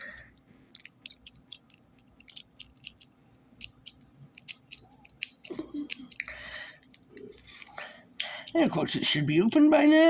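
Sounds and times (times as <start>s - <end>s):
lock pick clicking on metal wafers: 0.2s - 7.4s, 8.2s - 9.7s.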